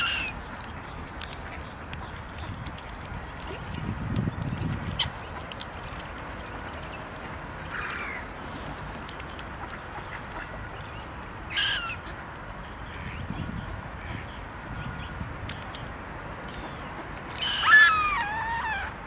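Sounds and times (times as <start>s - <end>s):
swans' bills dabbling at water: 0.0s - 18.6s.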